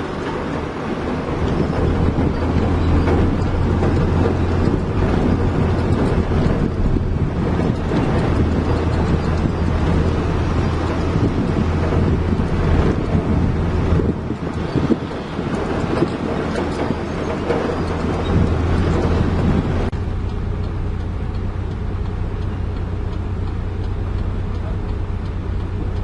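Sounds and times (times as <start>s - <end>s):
diesel engine running under load: 0.0s - 26.0s
wind noise: 0.0s - 26.0s.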